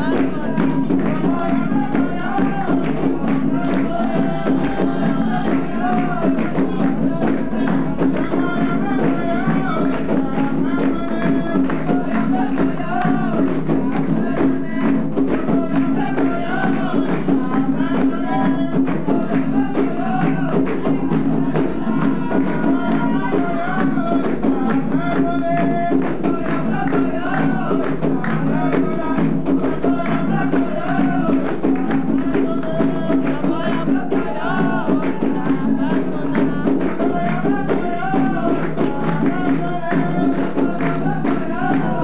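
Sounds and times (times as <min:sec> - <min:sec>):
group singing a chant: 0:00.0 - 0:42.0
hand drums beat: 0:00.0 - 0:42.0
jingling shaken percussion: 0:00.0 - 0:42.0.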